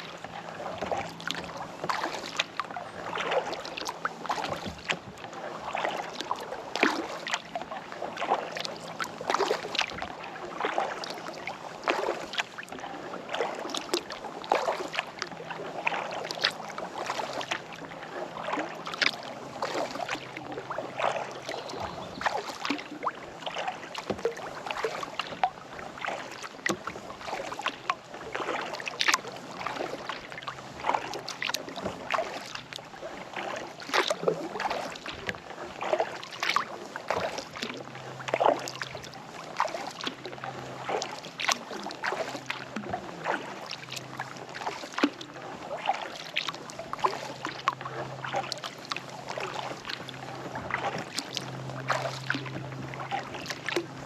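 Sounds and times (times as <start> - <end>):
kayak paddle strokes in water: 0.0 - 54.0
water dripping from paddle: 0.0 - 54.0.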